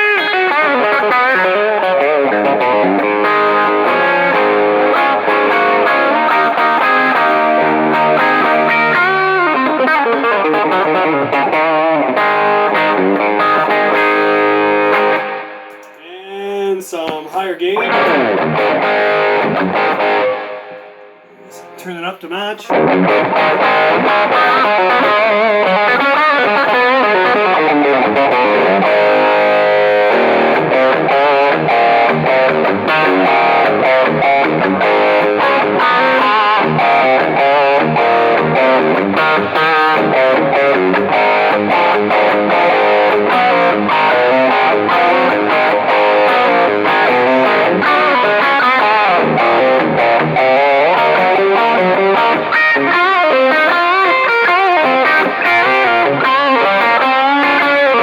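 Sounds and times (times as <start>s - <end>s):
distorted electric guitar riffs: 0.0s - 58.0s.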